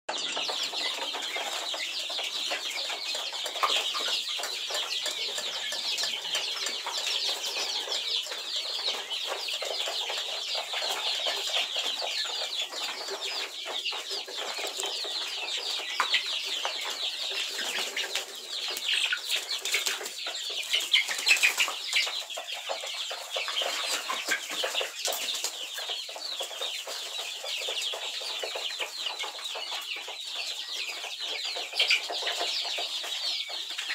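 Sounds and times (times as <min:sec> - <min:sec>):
hens chirping and clucking: 0:00.1 - 0:33.9.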